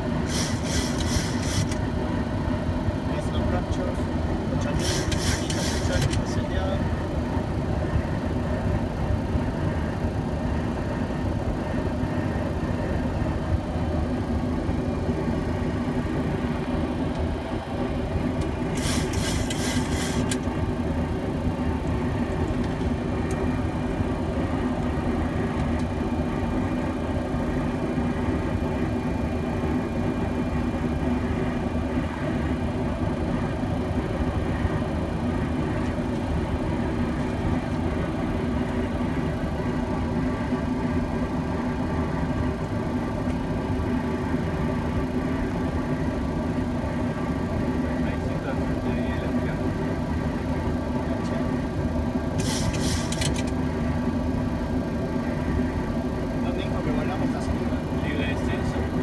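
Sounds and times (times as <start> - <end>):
airflow and engine noise: 0.0 - 59.0
low hum: 0.0 - 59.0.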